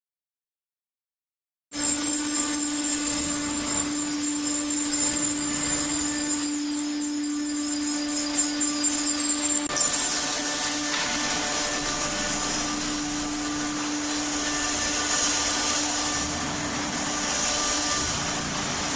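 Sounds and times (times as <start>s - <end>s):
machinery humming and whining: 1.8s - 18.9s.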